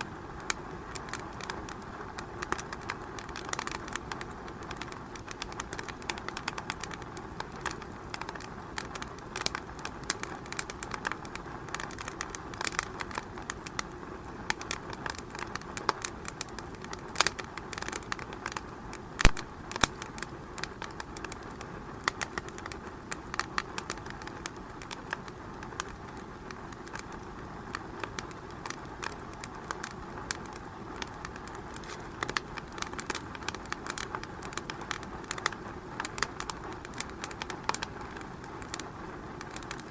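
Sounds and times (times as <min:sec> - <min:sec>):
steady hiss: 0:00.0 - 0:39.9
wood fire crackling: 0:00.0 - 0:39.9.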